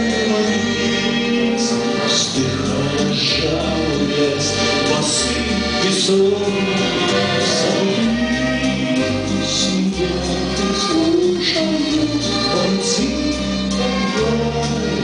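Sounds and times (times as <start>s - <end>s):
button accordion: 0.0s - 15.0s
man singing: 0.0s - 15.0s.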